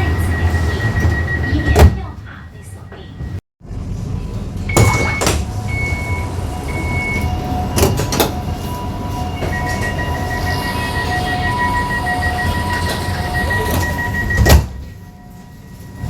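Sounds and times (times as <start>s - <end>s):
high door beeps: 0.0s - 2.2s, 4.7s - 16.0s
low warning tone: 0.0s - 3.4s, 4.3s - 16.0s
tram rumble: 0.0s - 16.0s.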